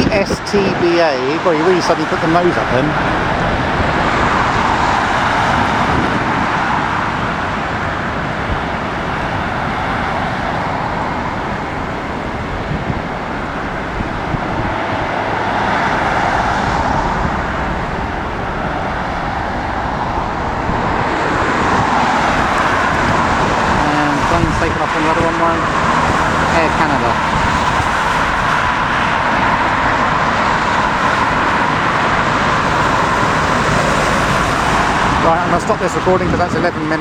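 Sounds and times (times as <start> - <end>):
jet engine roar: 0.0 - 37.0
wind buffeting microphone: 0.0 - 37.0.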